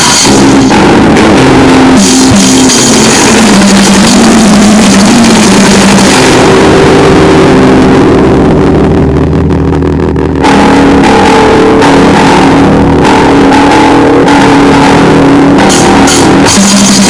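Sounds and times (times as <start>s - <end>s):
harsh distorted noise music: 0.0s - 17.0s
low distorted drone: 0.0s - 17.0s.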